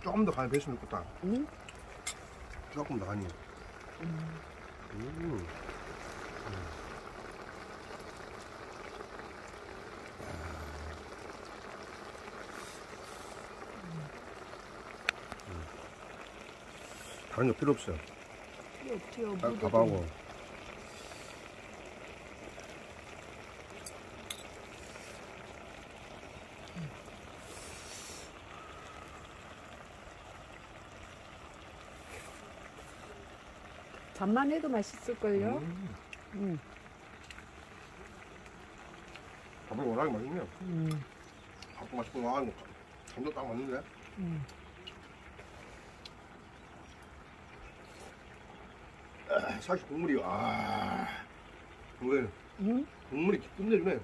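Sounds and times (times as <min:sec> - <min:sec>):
pot simmering with steady hiss: 0:00.0 - 0:54.0
stew bubbling and sizzling in pan: 0:00.0 - 0:54.0.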